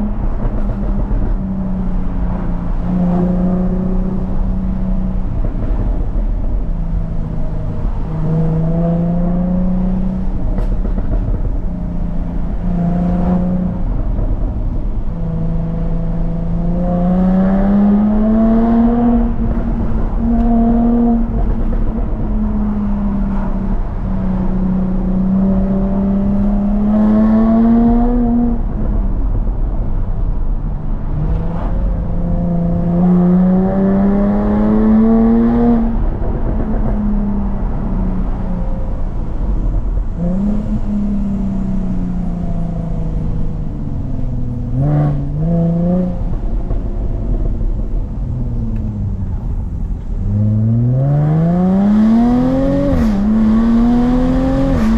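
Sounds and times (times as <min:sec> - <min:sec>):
car engine revving while driven: 0:00.0 - 0:29.0, 0:31.0 - 0:54.9.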